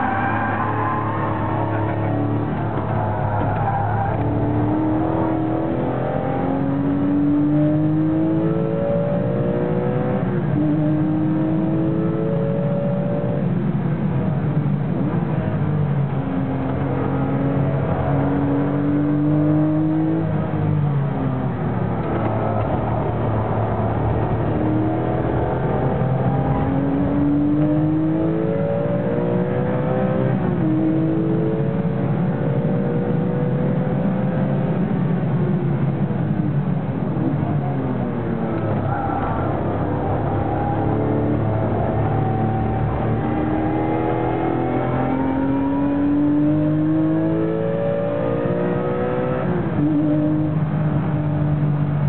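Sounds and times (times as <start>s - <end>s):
race car engine accelerating: 0.0s - 13.4s, 15.1s - 52.0s.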